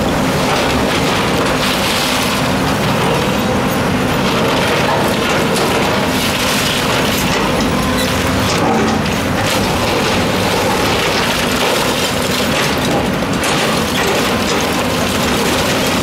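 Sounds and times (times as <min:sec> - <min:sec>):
excavator diesel engine under load: 0:00.0 - 0:16.0
falling bricks and debris clatter: 0:00.0 - 0:16.0.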